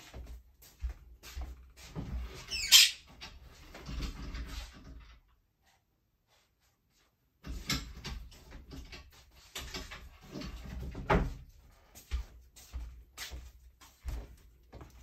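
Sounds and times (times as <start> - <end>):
objects rustling and clattering: 0.0 - 15.0.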